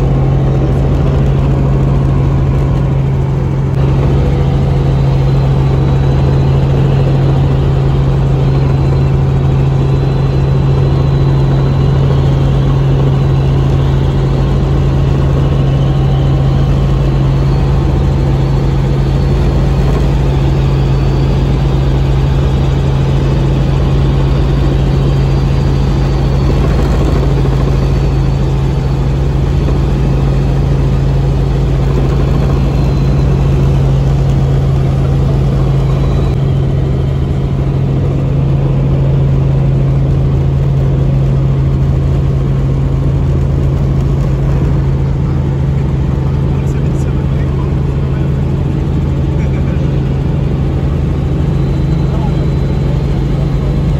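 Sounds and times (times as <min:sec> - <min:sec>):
helicopter cabin drone: 0:00.0 - 0:53.9.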